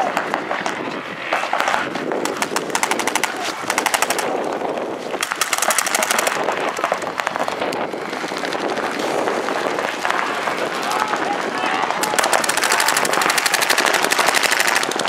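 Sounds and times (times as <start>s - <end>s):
paintball markers firing: 0.0s - 15.0s.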